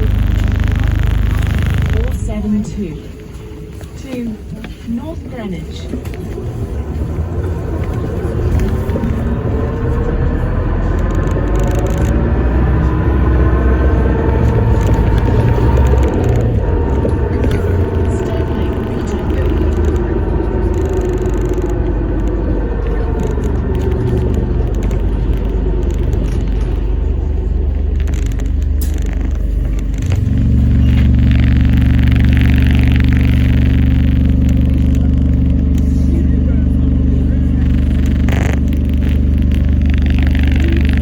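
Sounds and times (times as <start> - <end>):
hybrid drive whine: 0.0 - 4.2, 4.8 - 41.0
diesel engine drone: 0.0 - 41.0.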